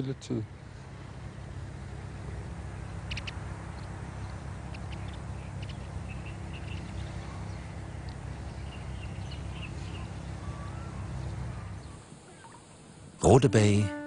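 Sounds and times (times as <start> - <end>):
small birds chirping: 0.0 - 13.3
steady low rumble: 0.0 - 13.4.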